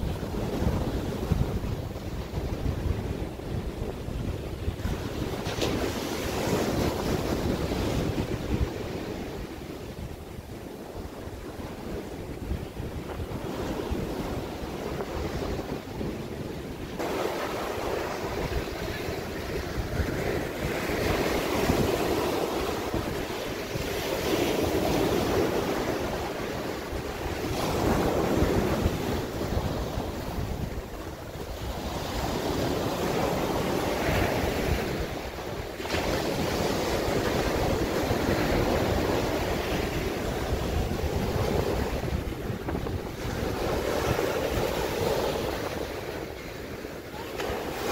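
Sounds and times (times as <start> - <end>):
small waves breaking on shore: 0.0 - 47.9
wind buffeting microphone: 0.0 - 47.9.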